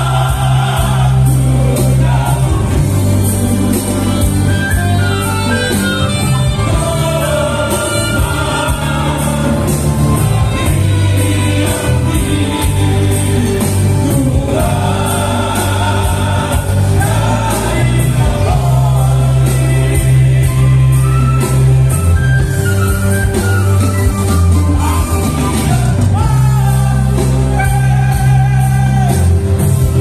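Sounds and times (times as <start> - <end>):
men singing in harmony: 0.0 - 22.0, 24.7 - 30.0
acoustic guitar: 0.0 - 30.0
low bass notes: 0.0 - 30.0.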